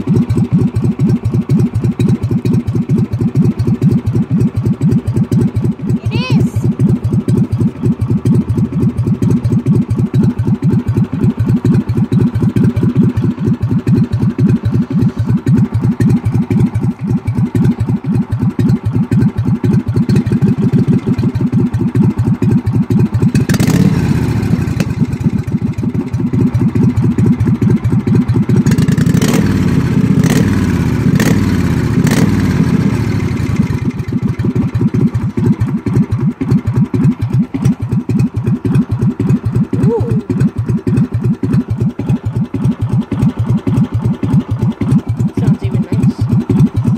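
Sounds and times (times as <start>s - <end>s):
riding mower engine idling: 0.0s - 46.9s.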